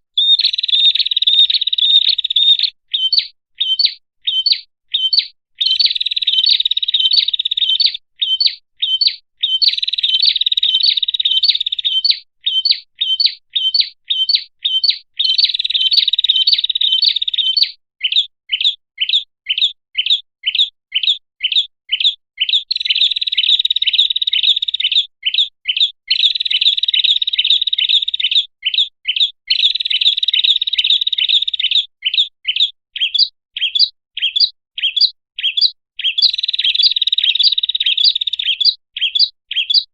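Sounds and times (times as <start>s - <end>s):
bird chirping and trilling: 0.2s - 39.9s.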